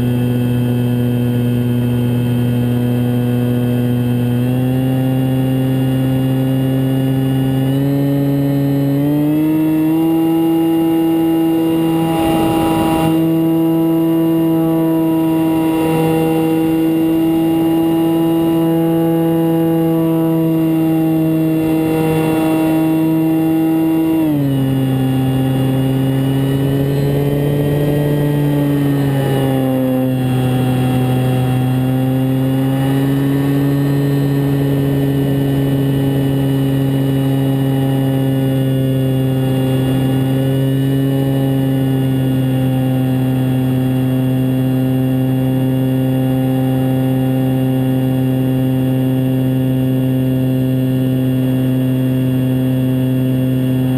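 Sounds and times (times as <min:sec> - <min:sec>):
electric motor and propeller hum: 0:00.0 - 0:53.9.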